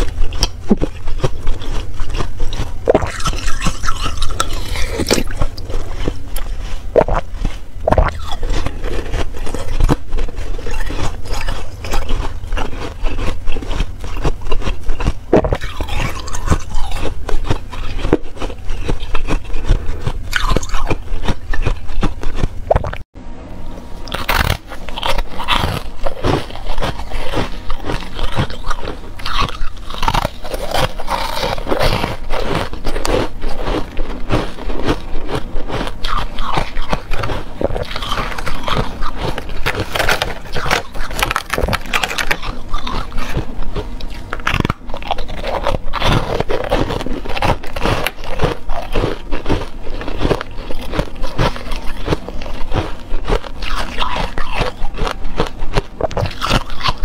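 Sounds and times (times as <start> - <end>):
ice crunching between teeth: 0.0 - 23.0, 24.1 - 57.0.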